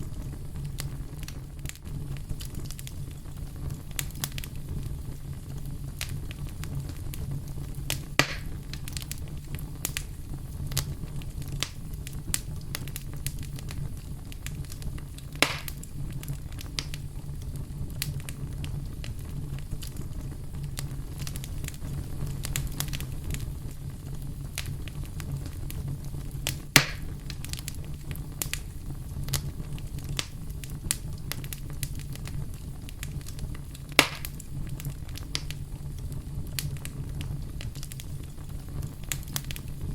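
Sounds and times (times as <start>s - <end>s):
campfire crackling: 0.0s - 39.9s
loud fire pops: 0.0s - 39.9s.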